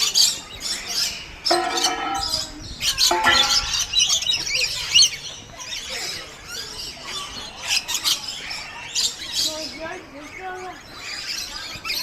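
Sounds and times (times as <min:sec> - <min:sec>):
birds chirping and squeaking: 0:00.0 - 0:12.0.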